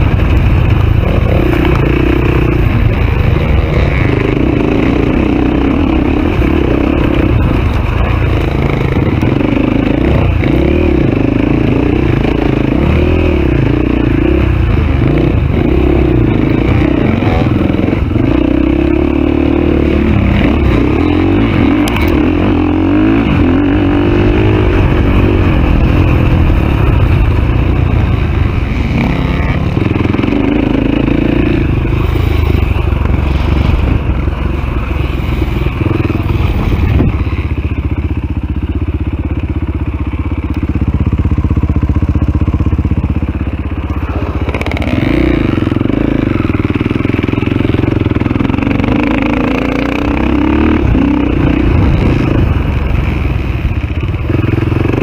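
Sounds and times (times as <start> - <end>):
off-road motorcycle engine revving: 0.0 - 55.0.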